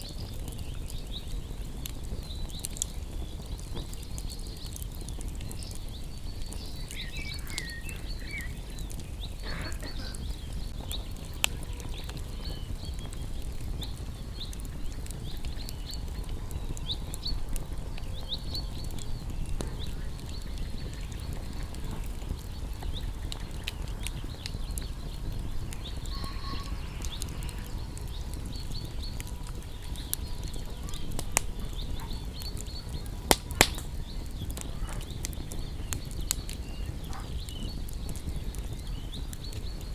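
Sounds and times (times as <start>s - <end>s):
bonfire crackling and popping: 0.0s - 39.9s
small birds chirping: 0.0s - 39.9s.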